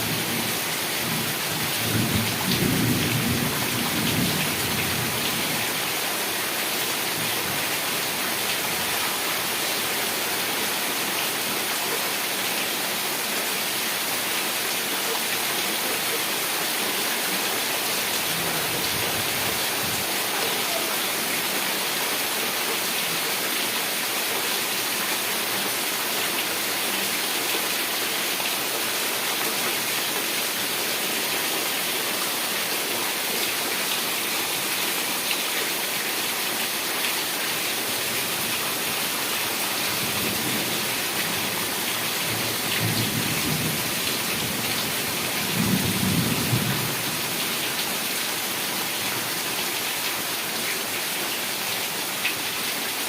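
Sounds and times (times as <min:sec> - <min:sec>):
heavy rain hissing: 0:00.0 - 0:50.1.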